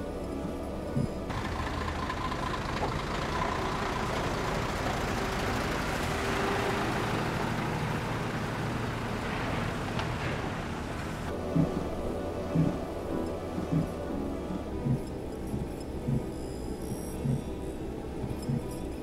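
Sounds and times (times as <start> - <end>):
lorry diesel engine rumbling: 0.0 - 19.0
road noise: 0.0 - 19.0.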